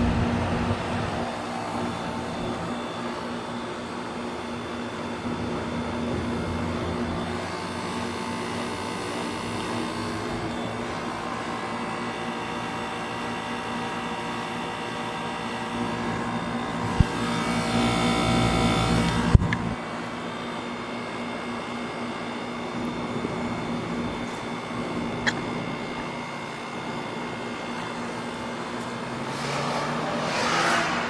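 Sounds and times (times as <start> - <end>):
heat pump running: 0.0 - 29.3.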